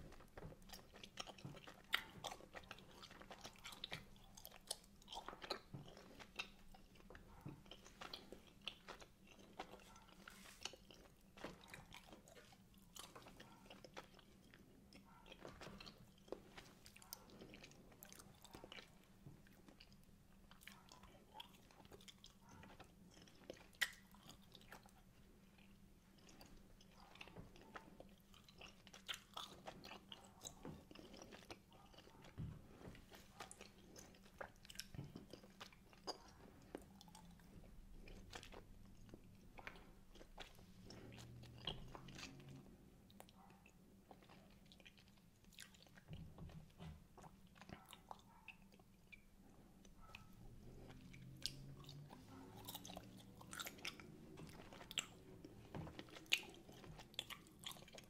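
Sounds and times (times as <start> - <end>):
mouth chewing sweets: 0.0 - 58.0.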